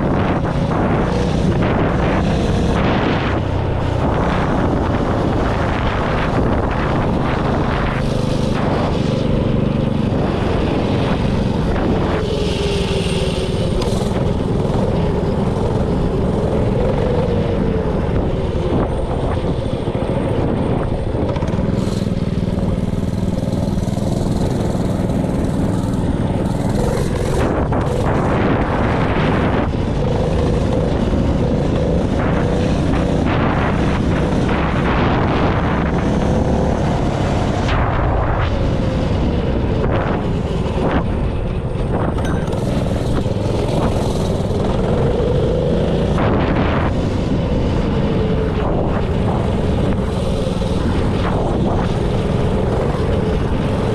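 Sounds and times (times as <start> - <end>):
mini bike engine revving: 0.0 - 53.9.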